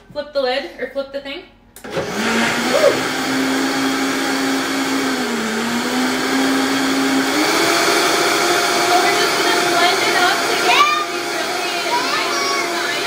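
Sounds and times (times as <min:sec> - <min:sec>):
blender running: 0:01.8 - 0:13.0.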